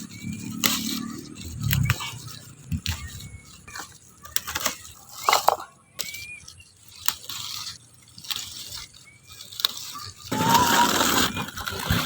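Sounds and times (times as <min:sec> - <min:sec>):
leaves snapping and rustling: 0:00.0 - 0:12.0.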